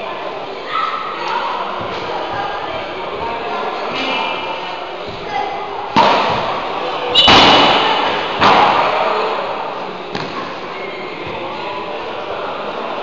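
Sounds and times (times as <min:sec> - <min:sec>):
ball impacts echoing in hall: 0:00.0 - 0:13.0.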